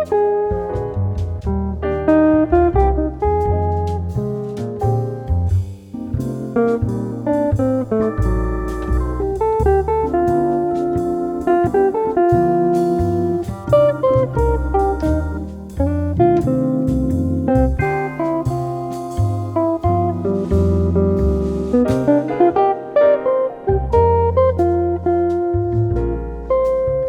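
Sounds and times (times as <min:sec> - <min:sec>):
plucked guitar melody: 0:00.0 - 0:27.0
walking bass: 0:00.0 - 0:27.0.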